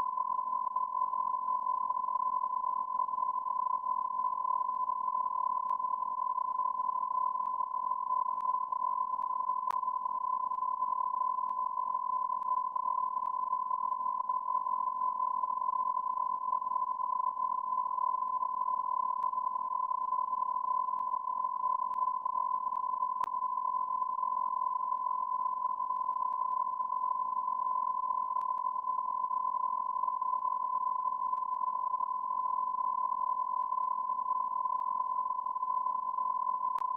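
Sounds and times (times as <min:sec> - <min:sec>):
steady electronic beep tone: 0:00.0 - 0:36.9.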